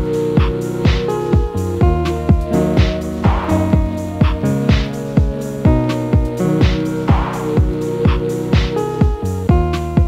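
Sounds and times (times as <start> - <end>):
kick drum beat: 0.0 - 10.0
sustained melodic notes: 0.0 - 10.0.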